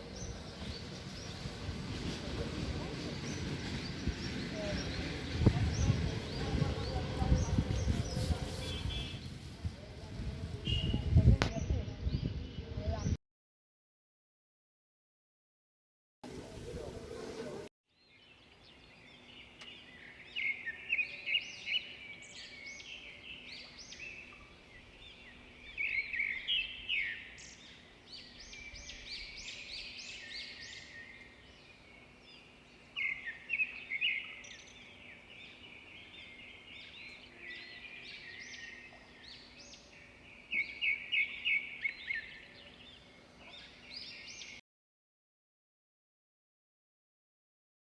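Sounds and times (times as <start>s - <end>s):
birds singing and chirping: 0.0s - 9.5s, 10.2s - 13.2s, 16.6s - 44.6s.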